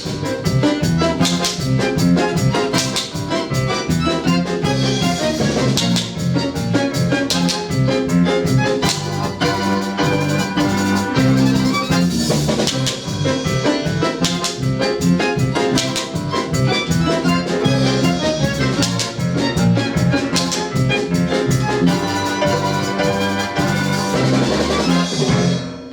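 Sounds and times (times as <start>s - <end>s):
lively instrumental music: 0.0s - 25.9s.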